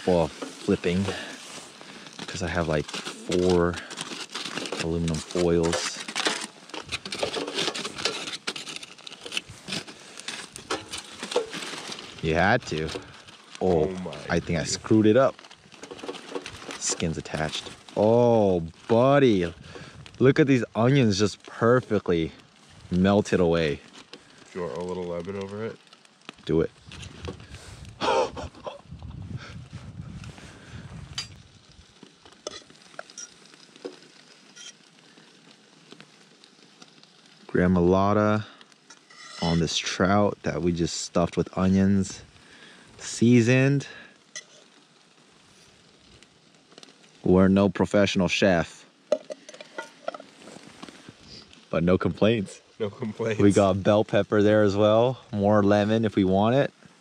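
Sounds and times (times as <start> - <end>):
aluminum foil crinkling: 0.0 - 57.0.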